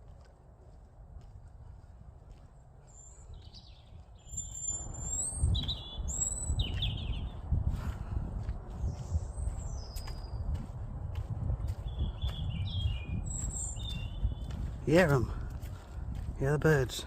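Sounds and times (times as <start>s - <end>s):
birds chirping: 1.6s - 17.0s.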